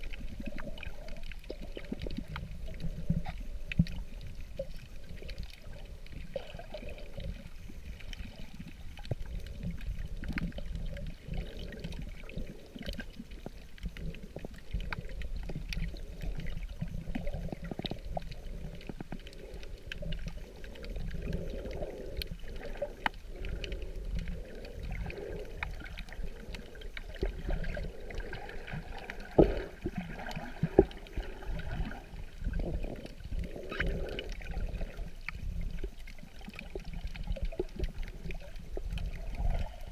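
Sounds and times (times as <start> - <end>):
faint clicks: 0.0 - 39.8
muffled underwater rumble: 0.0 - 39.9.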